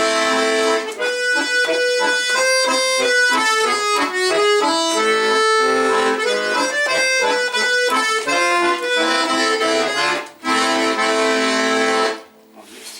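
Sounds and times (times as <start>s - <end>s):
button accordion melody: 0.0s - 12.4s.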